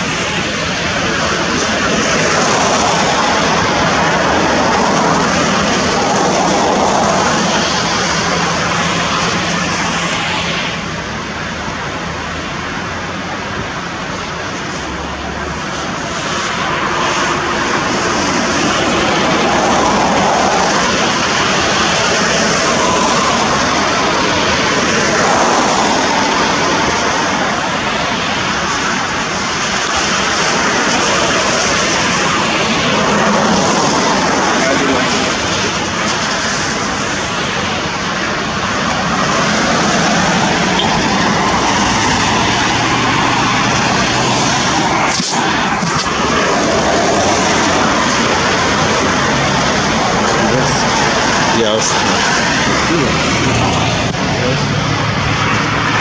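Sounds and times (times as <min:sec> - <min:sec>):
passing traffic: 0:00.0 - 0:56.0
tyres hissing on wet road: 0:00.0 - 0:56.0.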